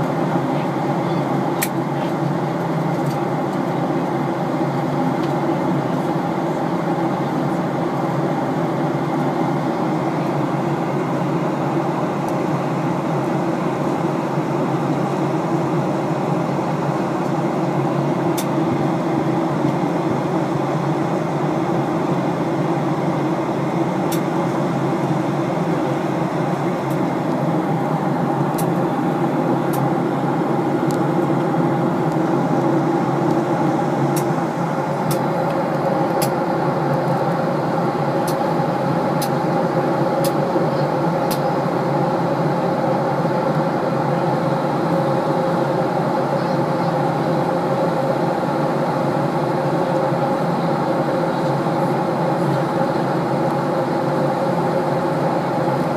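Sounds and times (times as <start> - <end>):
aircraft cabin drone: 0.0 - 55.9.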